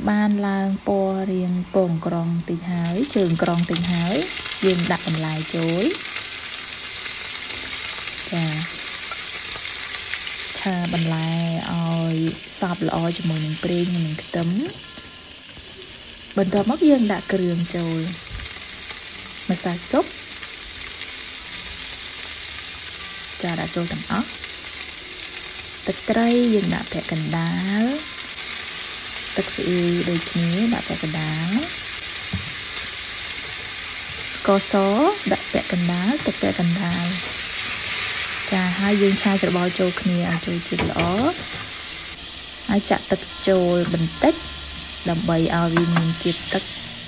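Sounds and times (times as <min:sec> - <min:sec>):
vegetables sizzling in a frying pan: 0:00.0 - 0:47.0.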